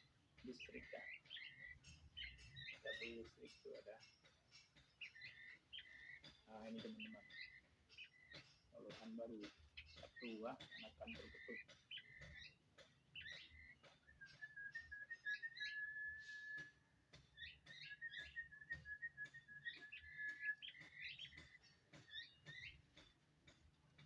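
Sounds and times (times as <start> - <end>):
young birds chirping: 0.0 - 24.0
trilled bird whistle: 0.7 - 9.2, 9.8 - 23.1.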